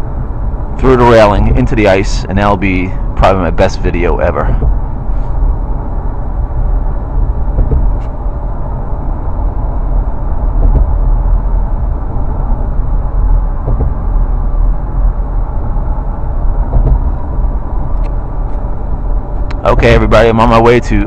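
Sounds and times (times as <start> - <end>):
car road rumble and engine: 0.0 - 21.0.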